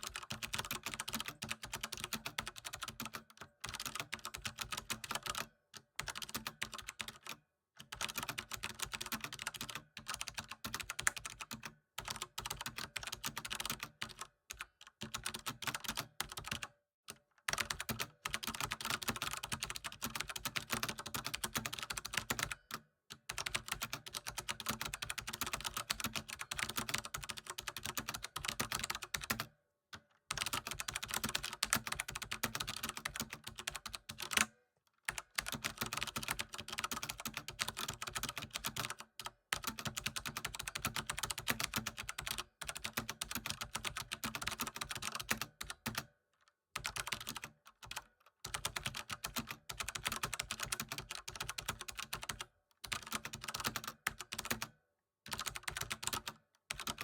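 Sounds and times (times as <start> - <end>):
keyboard typing: 0.0 - 16.7, 17.5 - 22.6, 23.3 - 29.5, 30.3 - 34.5, 35.1 - 46.1, 46.8 - 54.7, 55.3 - 57.0.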